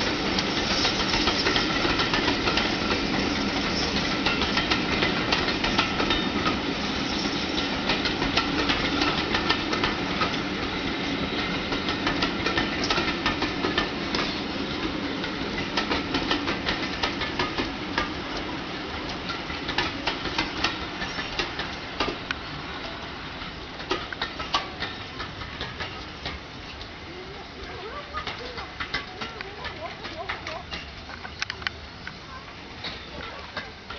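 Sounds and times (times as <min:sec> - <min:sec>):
train rumble: 0:00.0 - 0:33.9
train wheels clicking over rail joints: 0:00.0 - 0:33.9.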